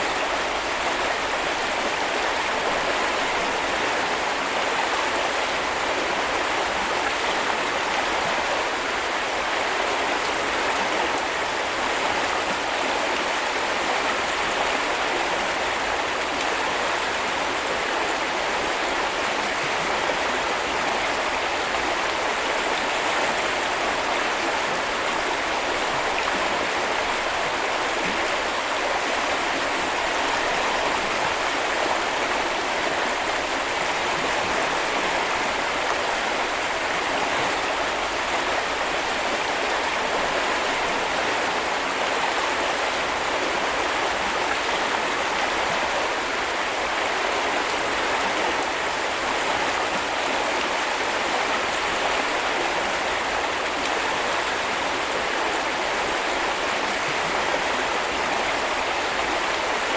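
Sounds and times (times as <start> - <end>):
brook flowing over stones: 0.0 - 59.9.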